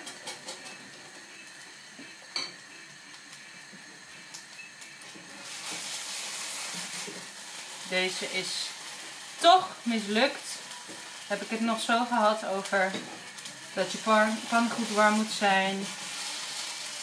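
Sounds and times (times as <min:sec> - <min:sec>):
pancake sizzling in a pan: 0:00.2 - 0:17.0.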